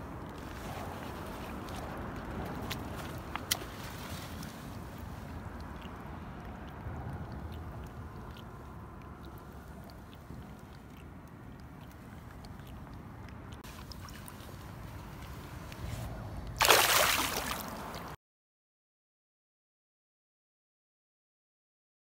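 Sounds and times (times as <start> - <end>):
river water sloshing and trickling: 0.0 - 18.2.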